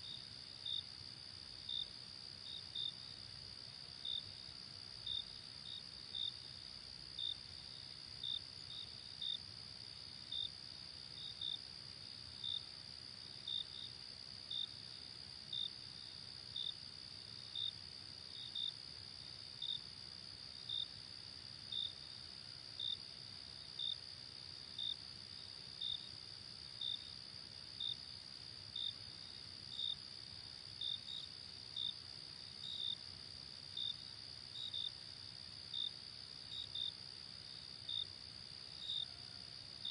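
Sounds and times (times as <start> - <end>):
nearby cricket chirps: 0.0 - 39.9.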